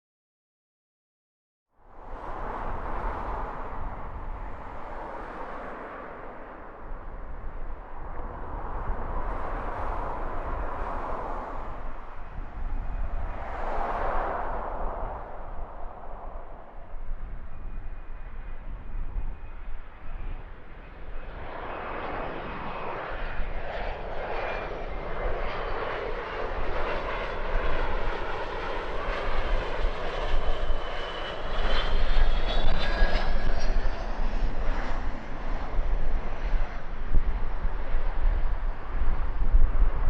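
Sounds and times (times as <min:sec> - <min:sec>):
wind buffeting microphone: 0:01.9 - 0:40.0.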